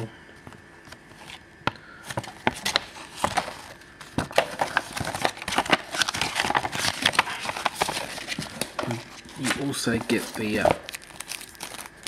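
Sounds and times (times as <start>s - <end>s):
paper crinkling and rustling: 2.1s - 12.0s.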